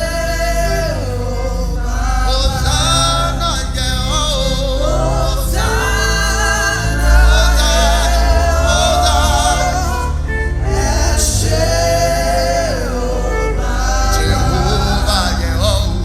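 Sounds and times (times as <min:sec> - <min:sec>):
gospel singing: 0:00.0 - 0:16.0
keyboard and bass accompaniment: 0:00.0 - 0:16.0.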